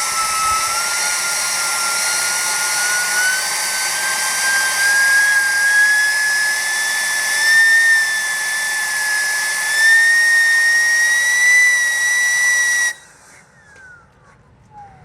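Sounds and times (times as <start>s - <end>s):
gas turbine whine: 0.0s - 15.0s.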